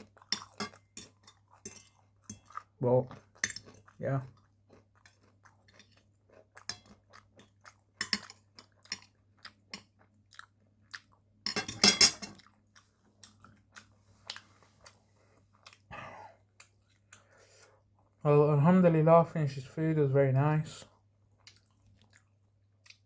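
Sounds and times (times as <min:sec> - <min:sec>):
person chewing food: 0:00.0 - 0:11.5, 0:12.2 - 0:18.2, 0:20.8 - 0:23.0.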